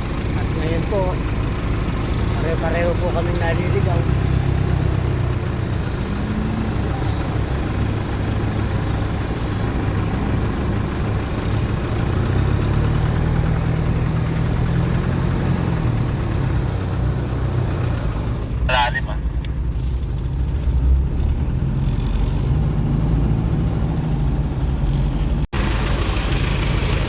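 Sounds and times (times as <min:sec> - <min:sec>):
vehicle engine humming: 0:00.0 - 0:27.0.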